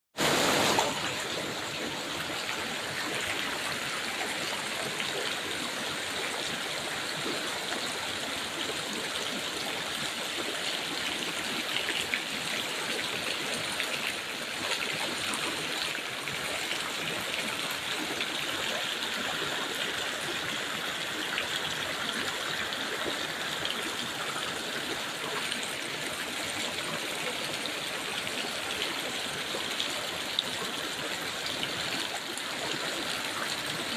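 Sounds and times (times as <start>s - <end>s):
floodwater rushing and gurgling: 0.2s - 33.9s.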